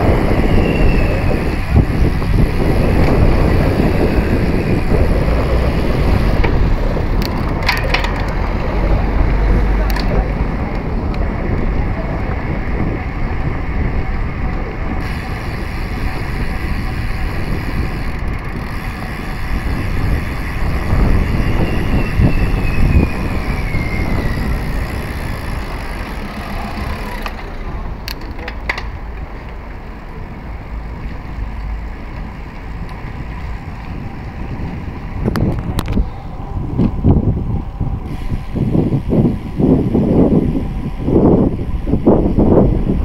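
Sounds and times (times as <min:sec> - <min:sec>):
road noise: 0:00.0 - 0:43.0
wind buffeting microphone: 0:00.0 - 0:43.0.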